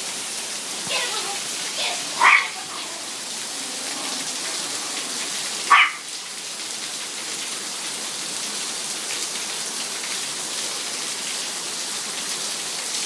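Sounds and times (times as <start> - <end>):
heavy rain on concrete: 0.0 - 13.0.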